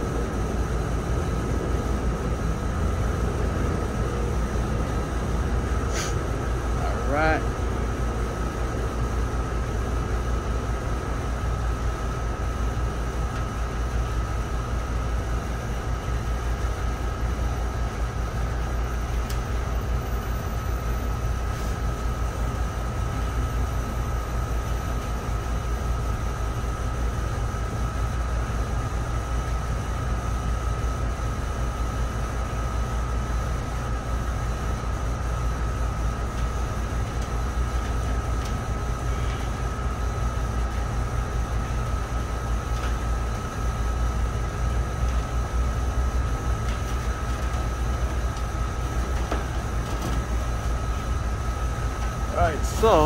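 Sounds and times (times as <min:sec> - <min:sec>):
air conditioning machinery hum: 0:00.0 - 0:53.0.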